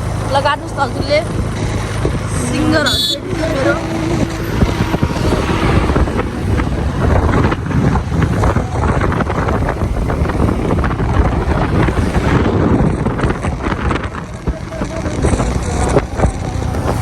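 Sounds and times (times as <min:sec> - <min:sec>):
road vehicle rumble: 0:00.0 - 0:17.0
wind buffeting microphone: 0:00.0 - 0:17.0.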